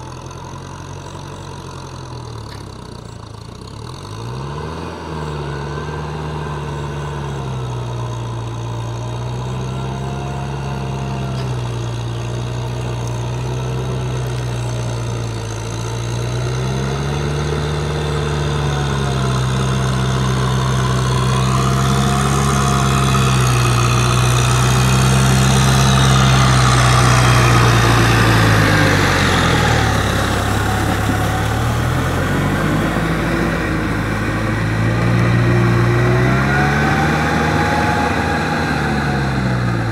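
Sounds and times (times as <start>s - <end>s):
rotary tiller churning mud: 0.0s - 39.9s
tractor diesel engine under load: 0.0s - 39.9s.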